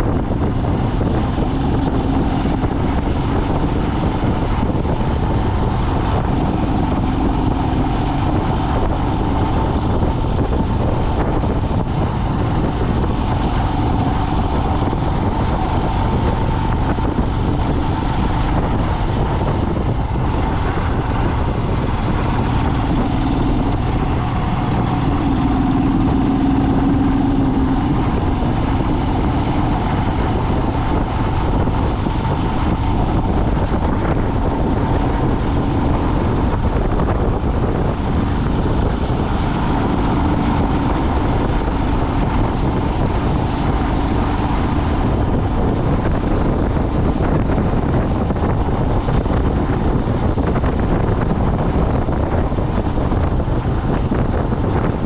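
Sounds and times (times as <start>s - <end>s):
vehicle engine and road noise: 0.0s - 55.0s
wind on microphone: 0.0s - 55.0s.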